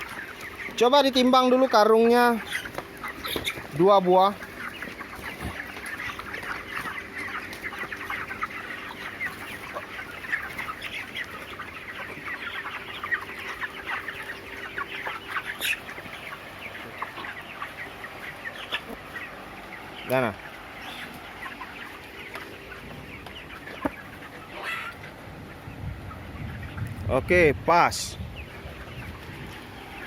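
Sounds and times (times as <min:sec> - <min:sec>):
chickens peeping and clucking: 0:00.0 - 0:30.0.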